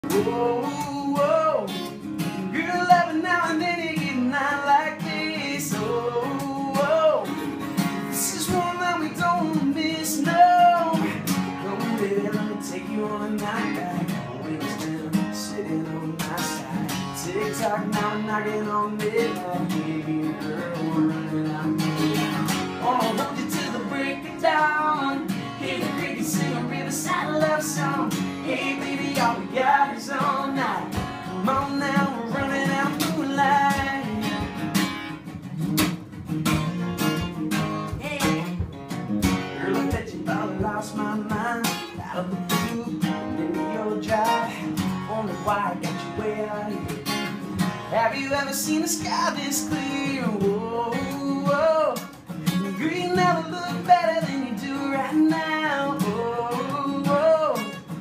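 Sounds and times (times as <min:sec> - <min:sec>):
man singing: 0:00.0 - 0:34.9, 0:37.2 - 0:58.0
acoustic guitar strumming: 0:00.0 - 0:58.0.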